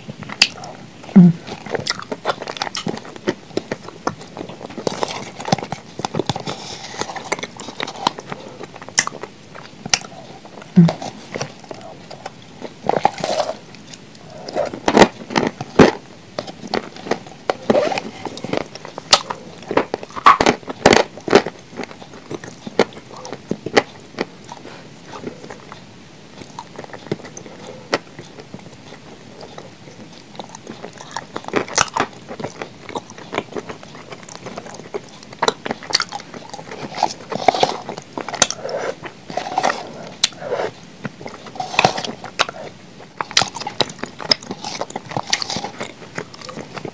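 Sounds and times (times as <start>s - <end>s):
chewing: 0.2s - 46.9s.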